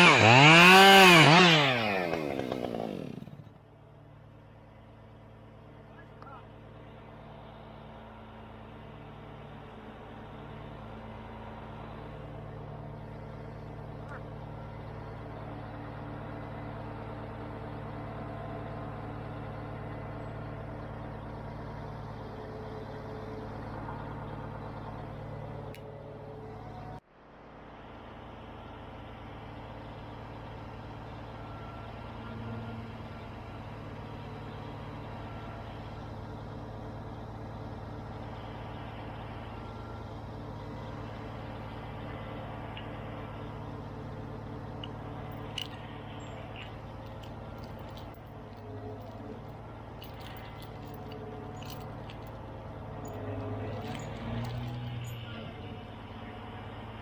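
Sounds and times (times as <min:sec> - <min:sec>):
large diesel engine droning: 0:00.0 - 0:57.0.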